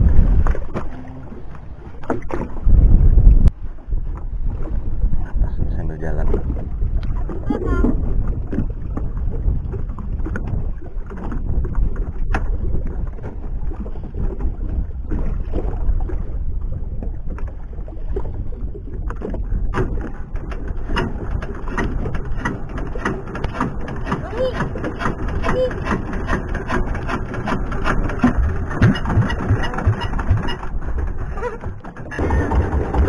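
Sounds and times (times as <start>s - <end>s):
motorboat engine running: 0.0s - 33.0s
rushing wind and water: 0.0s - 33.0s.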